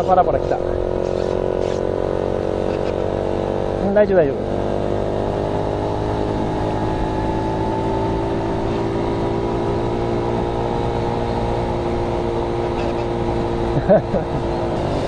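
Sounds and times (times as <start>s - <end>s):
road and wind noise hiss: 0.0s - 15.0s
small motorcycle engine running: 0.0s - 15.0s.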